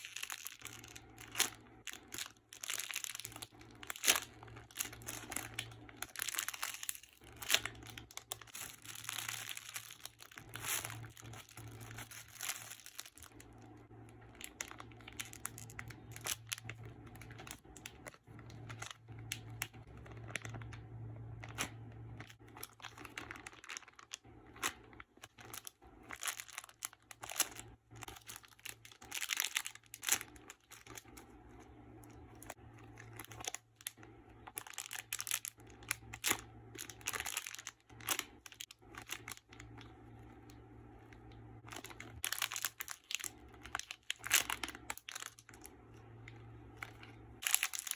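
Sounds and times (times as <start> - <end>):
faint low hum: 0.0 - 47.9
plastic crinkling and rustling: 0.0 - 47.9.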